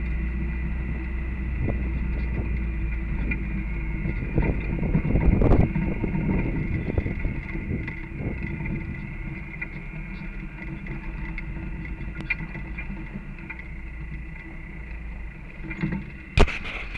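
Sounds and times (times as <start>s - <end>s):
off-road vehicle engine running: 0.0s - 16.9s.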